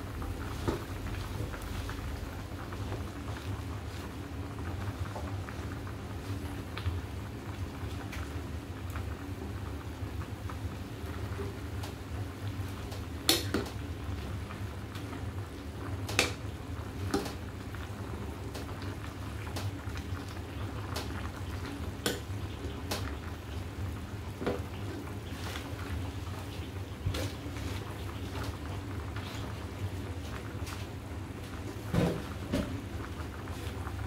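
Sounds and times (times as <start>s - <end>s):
broth bubbling in a pot: 0.0s - 34.0s.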